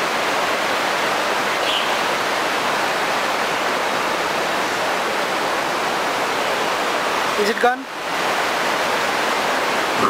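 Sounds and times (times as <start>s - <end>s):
stream roaring: 0.0s - 10.0s.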